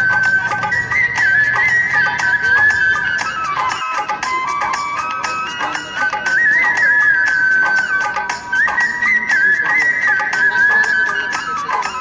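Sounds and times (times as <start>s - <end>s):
high bending melody: 0.0s - 12.0s
light percussion beat: 0.0s - 12.0s.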